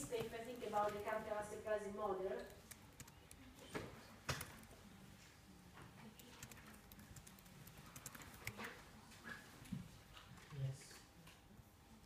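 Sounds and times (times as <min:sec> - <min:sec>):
faint clicks and taps: 0:00.0 - 0:01.2, 0:02.4 - 0:11.5.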